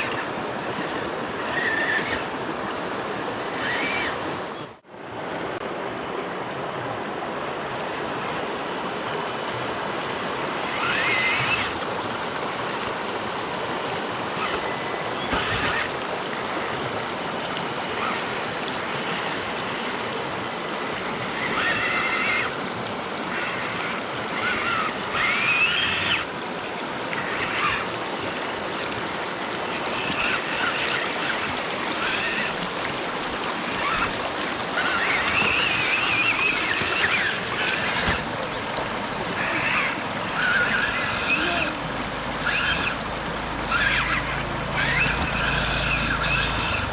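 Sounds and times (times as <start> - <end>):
small electric motor whining: 0.0 - 4.8, 9.6 - 46.9
stream water flowing: 0.0 - 46.9.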